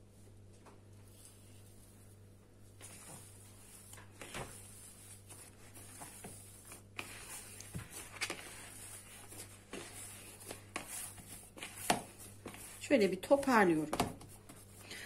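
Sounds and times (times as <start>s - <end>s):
dough squelching by hand: 0.8s - 15.0s.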